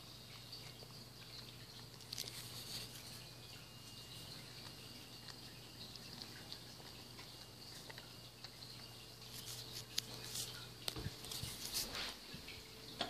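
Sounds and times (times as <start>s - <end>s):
cat chewing: 0.0s - 12.3s.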